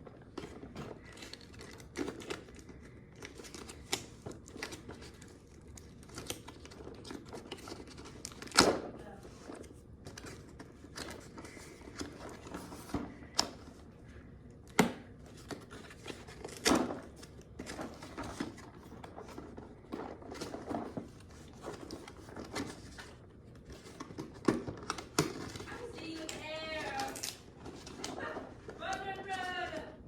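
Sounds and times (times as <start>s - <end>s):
packaging rustling: 0.0s - 8.6s, 9.2s - 30.0s.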